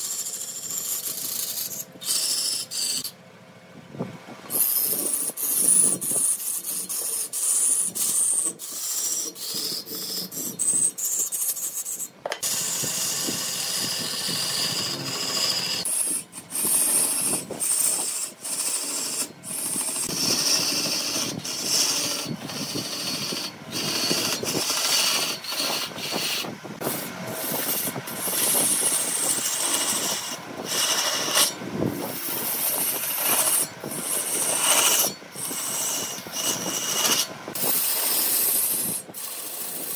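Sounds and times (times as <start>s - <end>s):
lathe tool scraping wood: 0.0s - 3.2s, 4.5s - 39.9s.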